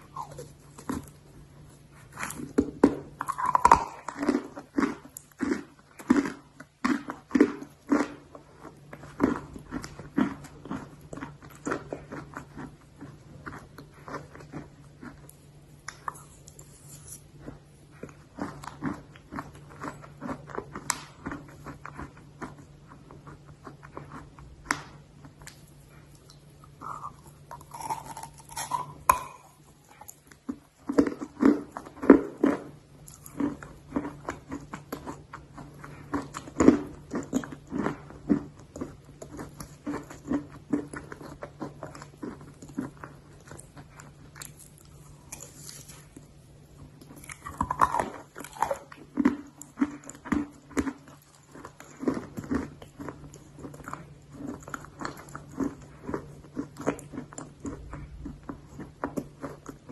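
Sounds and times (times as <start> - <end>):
chewing hard dry clay: 0.0 - 59.9.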